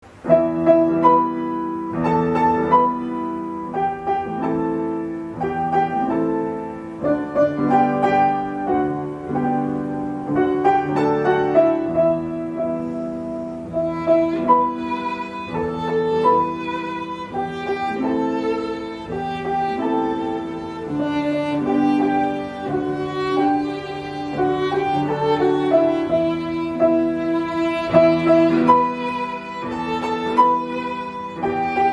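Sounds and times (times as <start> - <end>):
piano chords: 0.0 - 31.9
sustained violin melody: 0.3 - 31.9.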